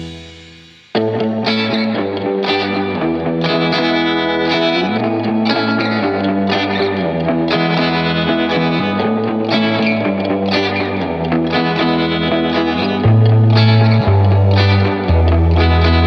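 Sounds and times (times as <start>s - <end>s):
distorted electric guitar instrumental: 0.0s - 16.0s.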